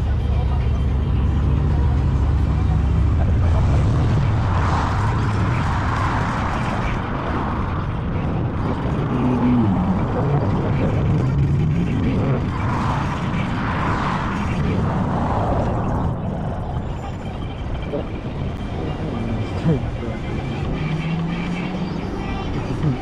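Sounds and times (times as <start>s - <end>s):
traffic: 0.0s - 23.0s
wind and road noise: 0.0s - 23.0s.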